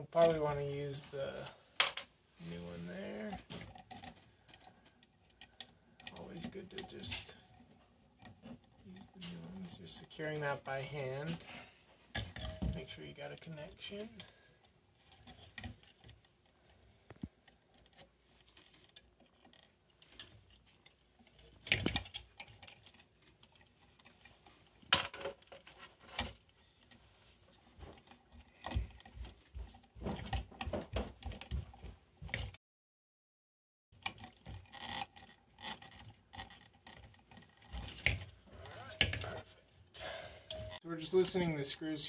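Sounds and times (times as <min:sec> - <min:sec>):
small plastic clicks and rustles: 0:02.7 - 0:32.6, 0:34.0 - 0:39.8.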